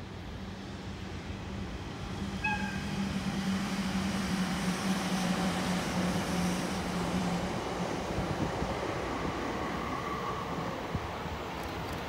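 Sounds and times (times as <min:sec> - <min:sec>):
freight train rumbling on rails: 0:00.0 - 0:12.0.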